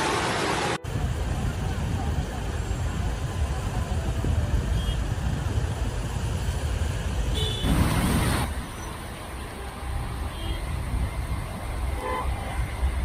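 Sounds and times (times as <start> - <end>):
cars wading through water: 0.0 - 13.0
floodwater rumbling: 0.0 - 13.0.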